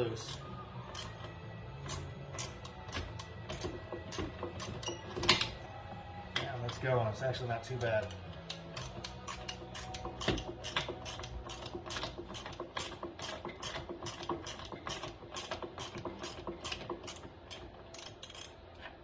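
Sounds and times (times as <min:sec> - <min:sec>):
socket ratchet clicking: 0:00.2 - 0:05.6, 0:07.8 - 0:18.7.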